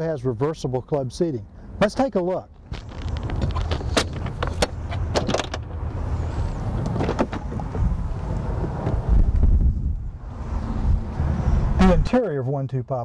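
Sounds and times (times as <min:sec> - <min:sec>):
steady low rumble: 0:00.2 - 0:12.2.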